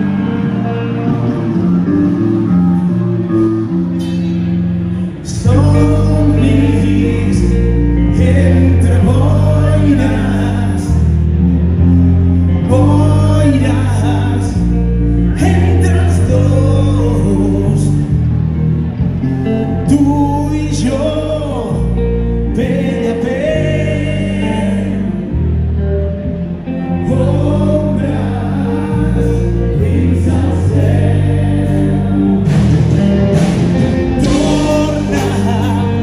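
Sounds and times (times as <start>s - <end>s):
live rock band playing: 0.0s - 36.0s.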